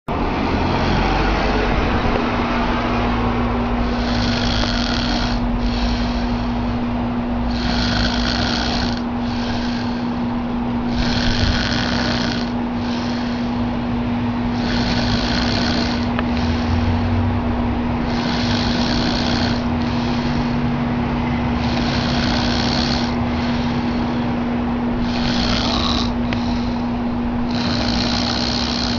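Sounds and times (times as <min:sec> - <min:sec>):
steady hum: 0:00.1 - 0:28.9
man snoring: 0:00.6 - 0:01.5, 0:03.8 - 0:13.8, 0:14.5 - 0:17.2, 0:18.0 - 0:20.8, 0:21.5 - 0:28.9.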